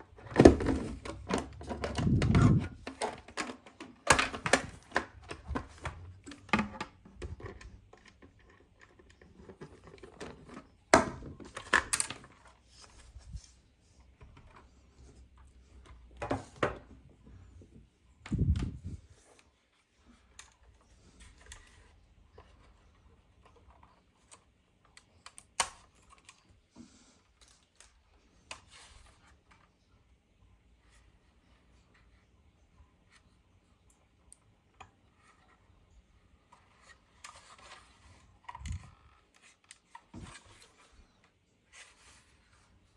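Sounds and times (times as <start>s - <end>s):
hands handling model car and packaging: 0.0s - 42.9s.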